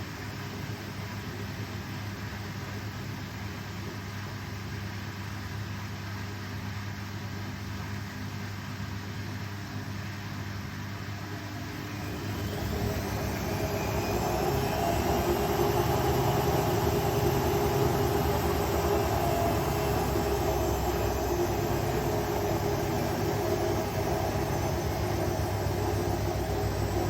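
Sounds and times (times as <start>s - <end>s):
washing machine spin cycle: 0.0s - 27.0s.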